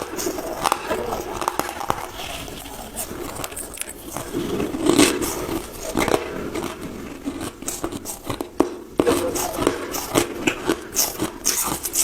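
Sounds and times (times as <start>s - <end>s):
chewing and crunching ice: 0.0s - 12.0s.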